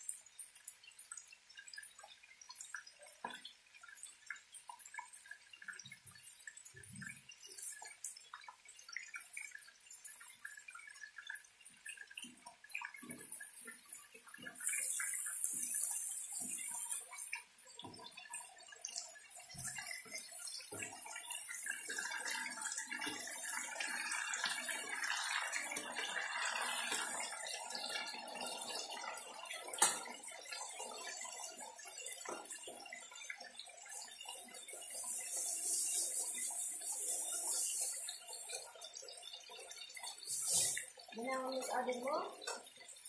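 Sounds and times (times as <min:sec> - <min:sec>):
food bubbling and sizzling: 0:00.0 - 0:43.0.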